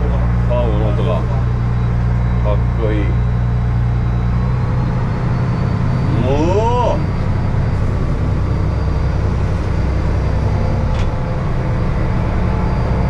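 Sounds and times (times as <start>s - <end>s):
diesel engine drone: 0.0s - 13.0s
wind: 0.0s - 13.0s.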